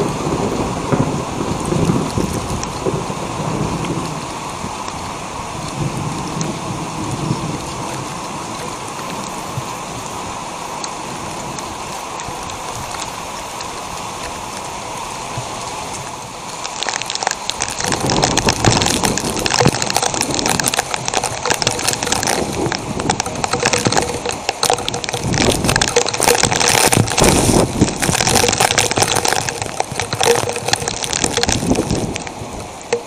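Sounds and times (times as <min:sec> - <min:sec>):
heavy rain pelting the camera: 0:00.0 - 0:33.0.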